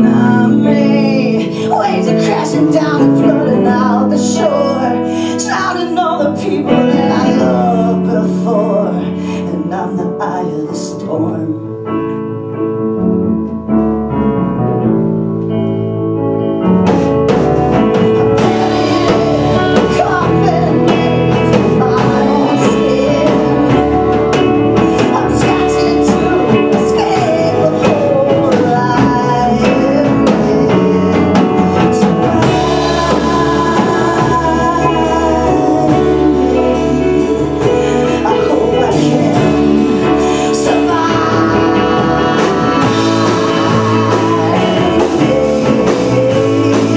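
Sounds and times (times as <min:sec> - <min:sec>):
rock band playing: 0:00.0 - 0:09.0, 0:12.4 - 0:46.9
drums: 0:00.0 - 0:10.3, 0:14.8 - 0:46.9
woman singing: 0:00.0 - 0:12.0, 0:17.9 - 0:46.9.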